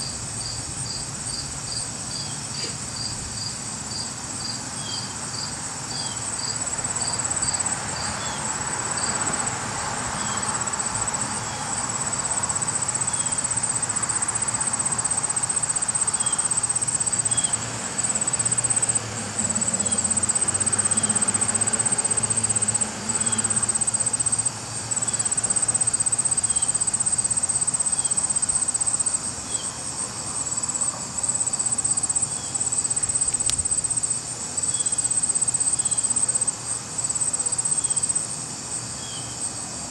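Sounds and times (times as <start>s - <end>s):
insect chirps: 0.0s - 39.9s
insects trilling: 0.0s - 39.9s.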